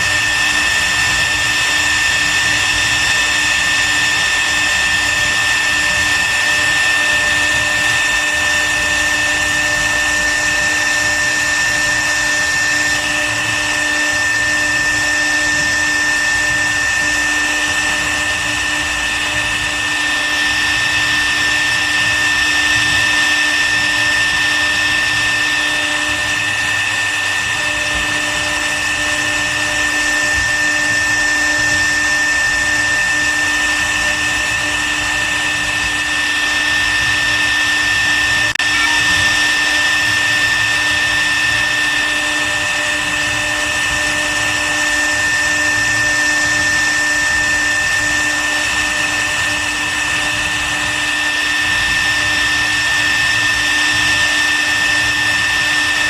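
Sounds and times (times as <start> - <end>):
router spindle whine: 0.0 - 56.0.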